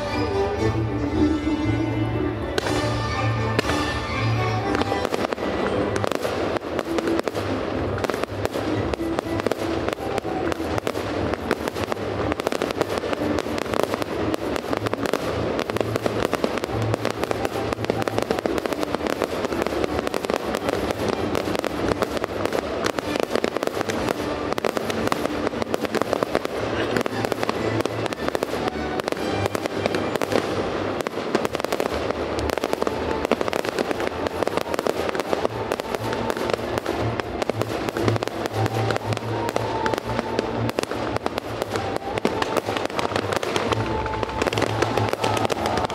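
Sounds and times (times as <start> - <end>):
fireworks bursting and crackling: 0.0 - 45.9
music playing: 0.0 - 45.9.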